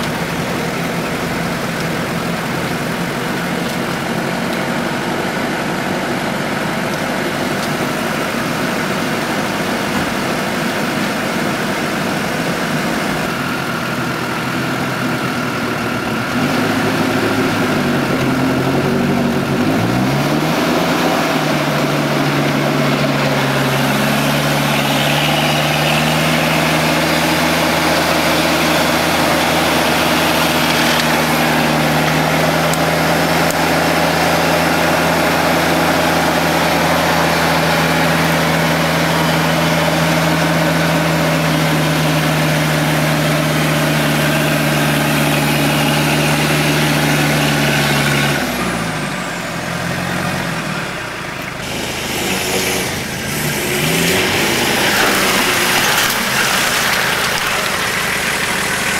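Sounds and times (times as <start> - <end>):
off-road vehicle engine: 0.0 - 58.9.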